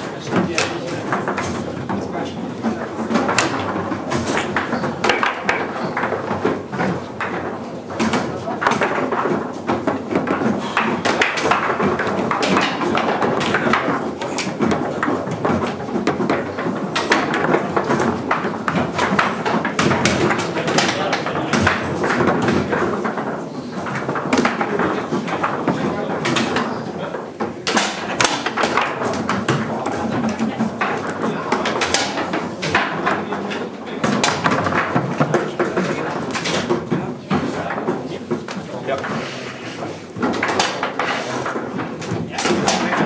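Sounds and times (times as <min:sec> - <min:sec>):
foosball clacks: 0:00.0 - 0:43.0
people talking in a hall: 0:00.0 - 0:43.0.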